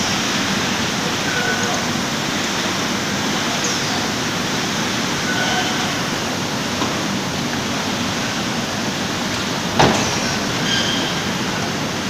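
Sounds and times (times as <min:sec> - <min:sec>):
conveyors and packing machine running: 0:00.0 - 0:12.0.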